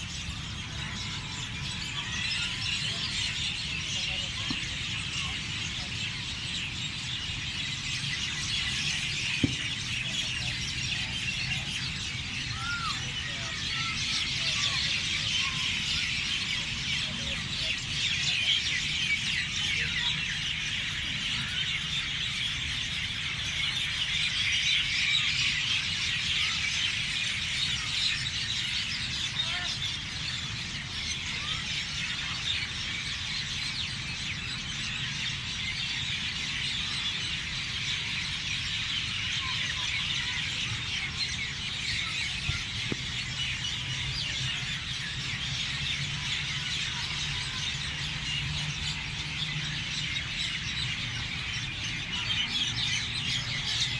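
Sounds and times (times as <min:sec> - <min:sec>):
small birds chirping and singing: 0:00.0 - 0:53.9.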